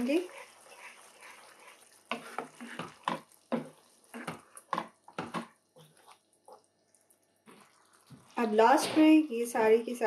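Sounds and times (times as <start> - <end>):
spoon stirring thick sauce: 0.0 - 8.4.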